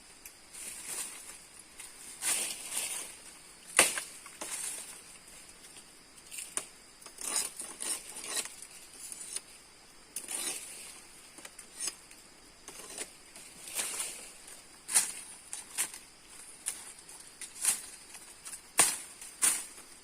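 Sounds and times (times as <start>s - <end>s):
faint high insect drone: 0.0s - 20.0s
rustling and scraping of leaves: 0.2s - 20.0s.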